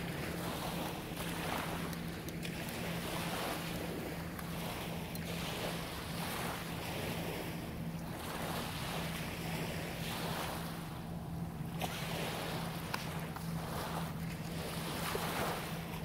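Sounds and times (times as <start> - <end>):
small waves lapping on shore: 0.0 - 16.0
steady low hum: 0.0 - 16.0.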